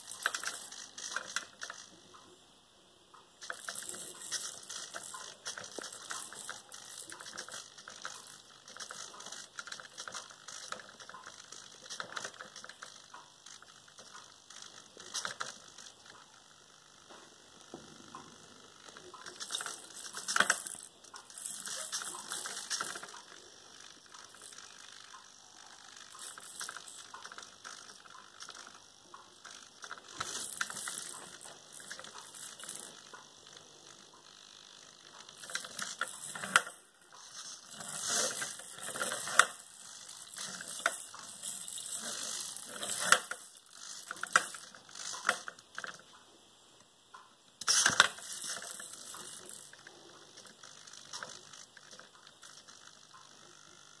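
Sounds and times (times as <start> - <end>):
servo whirring: 0.0 - 2.3, 3.4 - 46.0, 47.6 - 54.0.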